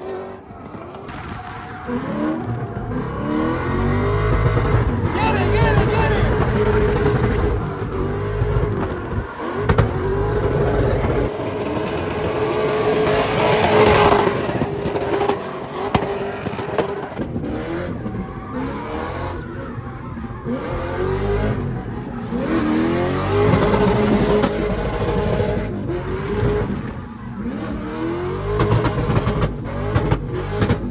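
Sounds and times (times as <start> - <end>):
engine revving hard: 0.0 - 30.9
tires squealing: 0.0 - 30.9.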